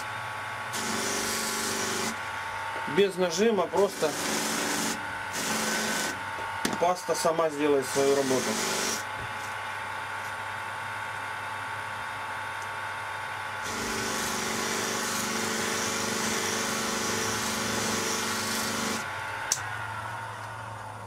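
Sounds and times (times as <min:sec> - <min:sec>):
bench buffer humming: 0:00.0 - 0:21.0.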